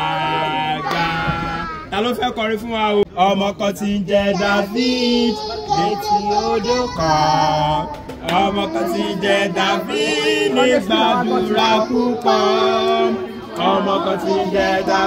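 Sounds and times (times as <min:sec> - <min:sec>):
boy singing through loudspeaker: 0:00.0 - 0:01.9, 0:03.6 - 0:15.0.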